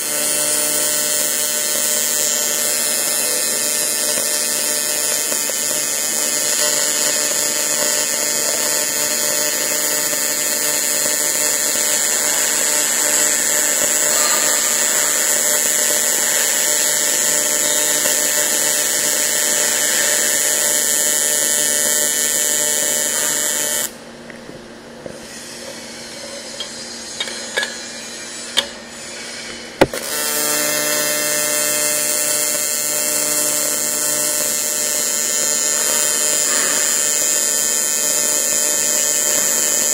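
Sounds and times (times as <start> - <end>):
welding arc buzzing: 0.0 - 24.0, 25.3 - 39.9.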